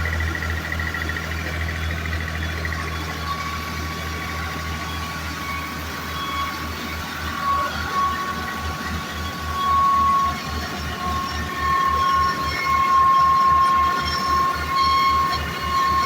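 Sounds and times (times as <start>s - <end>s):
thin engine whine: 0.0s - 16.0s
tractor diesel engine idling: 0.0s - 16.0s.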